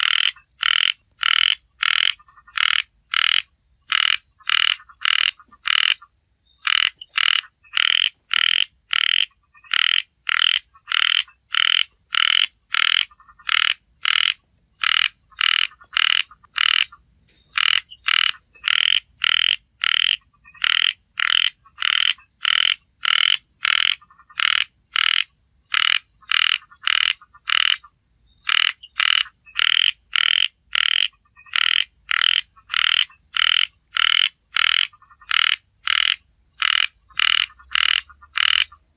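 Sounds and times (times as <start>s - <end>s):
frog croaking: 0.0s - 38.9s.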